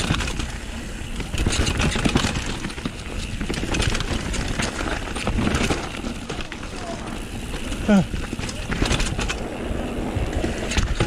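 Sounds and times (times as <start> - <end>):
bike chain and parts rattling: 0.0 - 11.0
bike tyres on rough trail: 0.0 - 11.0.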